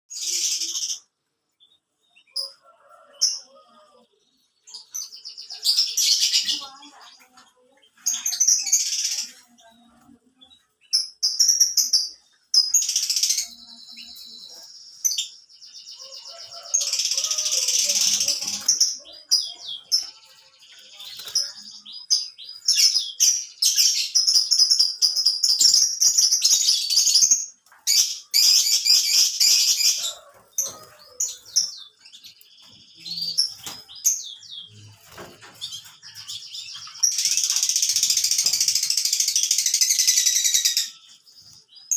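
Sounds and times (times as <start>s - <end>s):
canary trilling and chirping: 0.1s - 41.9s.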